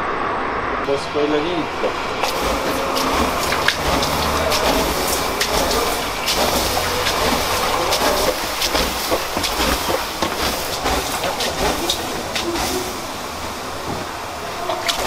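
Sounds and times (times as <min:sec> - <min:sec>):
water splashing: 0:01.1 - 0:15.0
steam hissing and crackling: 0:01.6 - 0:15.0.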